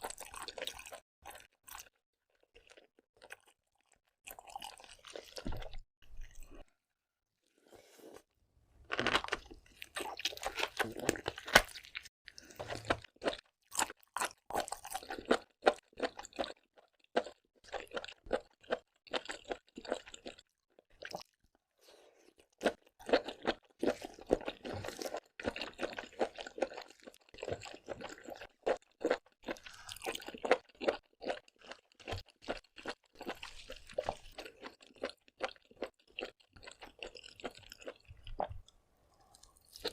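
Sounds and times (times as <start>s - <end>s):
chewing and crunching seafood: 0.0s - 6.8s, 8.9s - 39.9s.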